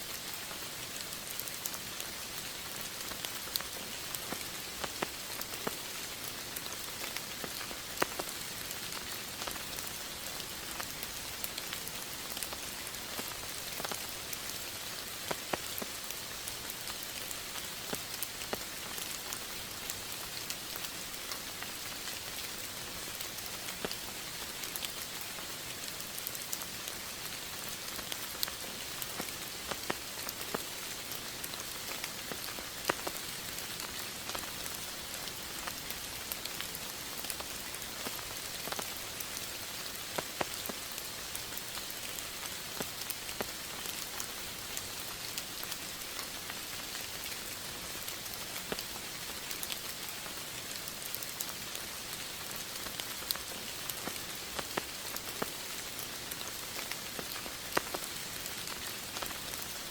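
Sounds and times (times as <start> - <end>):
steady rain hissing: 0.0 - 59.9
raindrops tapping on surface: 3.0 - 22.3, 23.3 - 27.0, 27.6 - 59.7.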